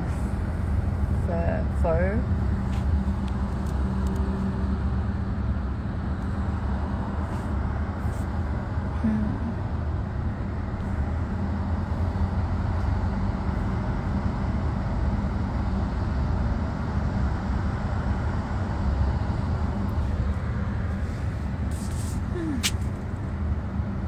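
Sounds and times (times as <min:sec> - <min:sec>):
car cabin road noise: 0:00.0 - 0:24.0.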